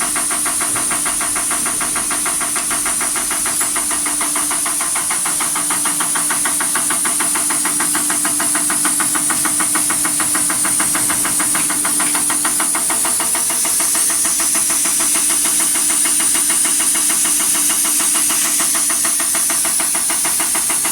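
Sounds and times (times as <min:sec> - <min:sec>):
injector clicking rapidly: 0:00.0 - 0:20.9
hiss of sprayed fuel: 0:04.0 - 0:20.9.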